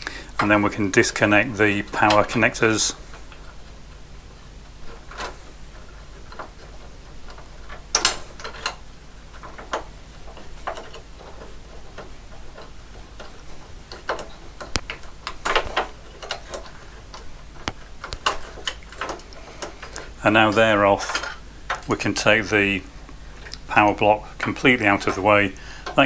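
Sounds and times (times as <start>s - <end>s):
power connectors clicking and rattling: 0.0s - 26.0s.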